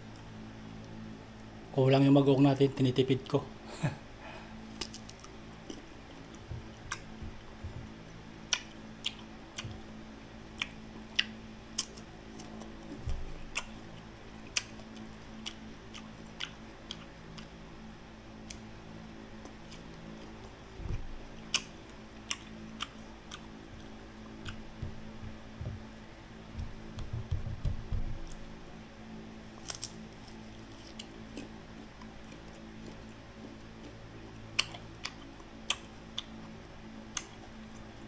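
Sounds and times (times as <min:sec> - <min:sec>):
steady low hum: 0:00.0 - 0:38.0
biting and chewing crunchy mango: 0:04.6 - 0:27.0, 0:28.2 - 0:38.0.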